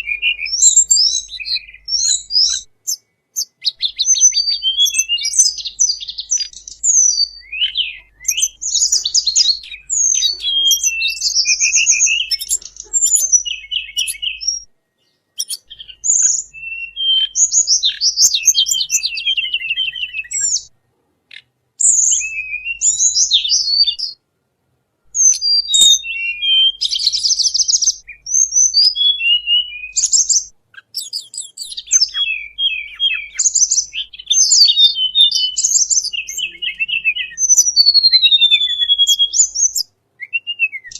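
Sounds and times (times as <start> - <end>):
high-pitched bird chirps and trills: 0.0 - 24.2, 25.1 - 40.9.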